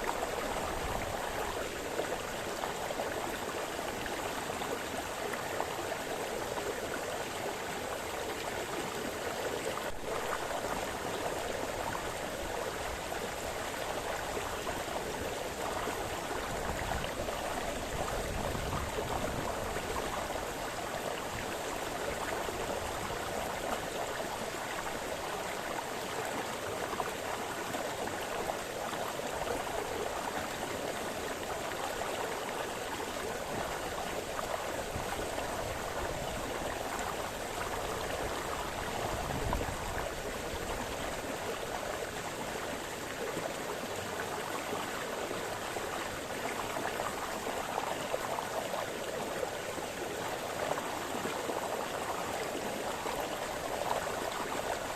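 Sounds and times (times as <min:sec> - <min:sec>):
brook babbling: 0:00.0 - 0:54.9.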